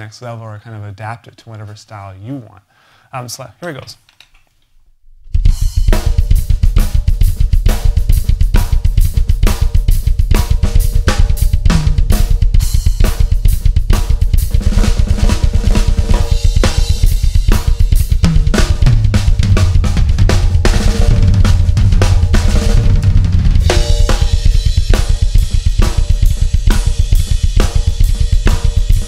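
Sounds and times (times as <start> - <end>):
bass drum pedals: 5.3 - 29.0
cymbals and snare: 5.3 - 29.0.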